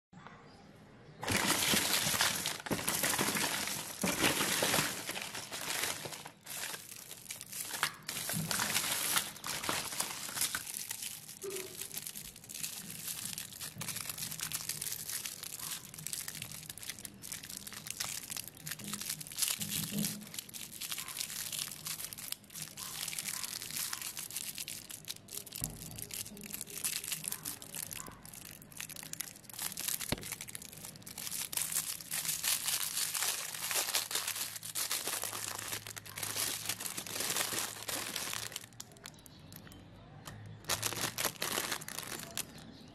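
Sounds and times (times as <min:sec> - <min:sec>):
foil wrapper crinkling: 0:01.2 - 0:39.4, 0:40.3 - 0:42.9.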